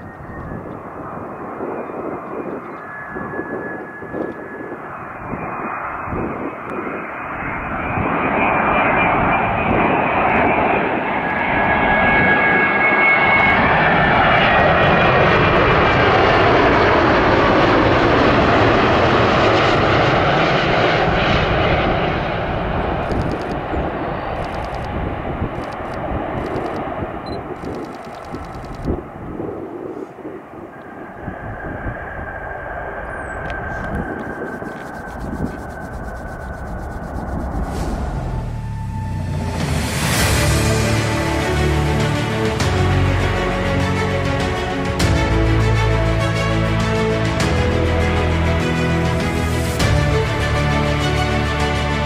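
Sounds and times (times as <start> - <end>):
steady whine: 0.0 - 29.4, 30.2 - 52.0
jet engines howling: 0.0 - 52.0.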